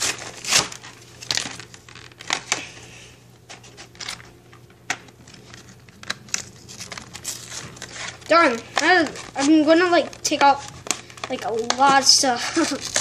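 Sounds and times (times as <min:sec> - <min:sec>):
packaging clicks and rustles: 0:00.0 - 0:02.8, 0:03.5 - 0:13.0.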